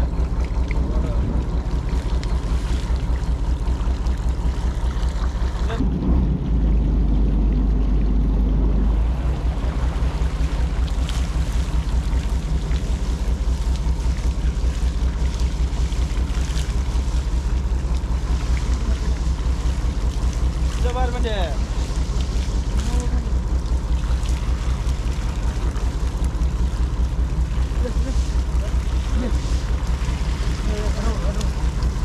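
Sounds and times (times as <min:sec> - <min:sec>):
boat engine throbbing: 0:00.0 - 0:32.0
water splashing past hull: 0:00.0 - 0:32.0.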